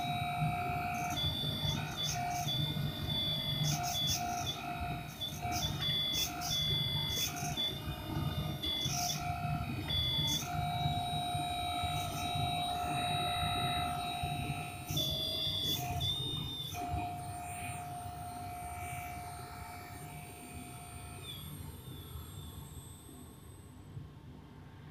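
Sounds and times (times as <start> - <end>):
electric motor pump whine: 0.0 - 24.7.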